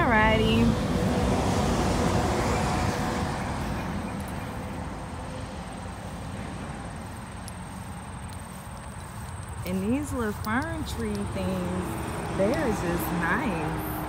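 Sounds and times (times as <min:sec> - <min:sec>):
passing vehicle road noise: 0:00.0 - 0:14.0.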